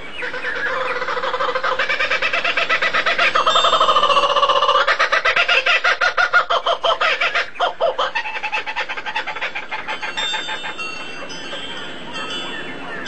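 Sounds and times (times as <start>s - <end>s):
bird calling fast repeated notes: 0.2s - 11.1s.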